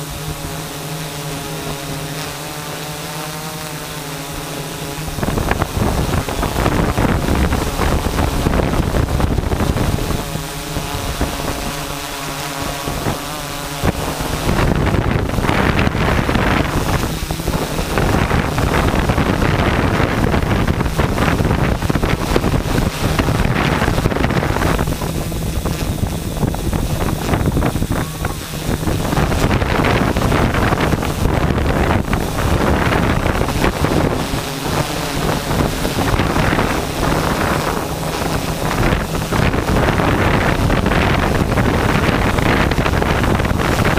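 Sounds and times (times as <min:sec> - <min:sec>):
drone propellers whirring: 0:00.0 - 0:43.9
wind buffeting microphone: 0:00.0 - 0:43.9.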